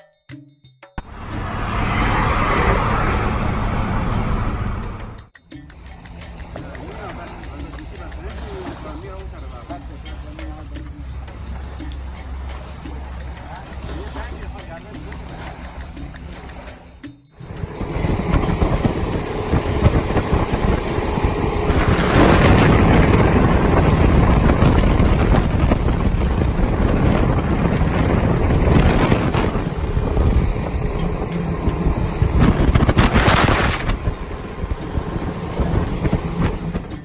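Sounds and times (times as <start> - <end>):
boat engine noise: 1.0 - 37.0
water rushing: 1.0 - 37.0.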